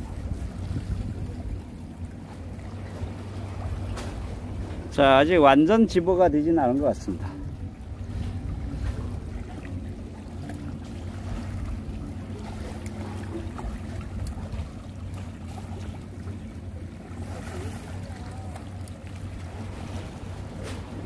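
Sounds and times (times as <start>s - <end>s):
faint wind: 0.0s - 21.0s
steady low hum: 0.0s - 21.0s
water noise: 0.0s - 21.0s.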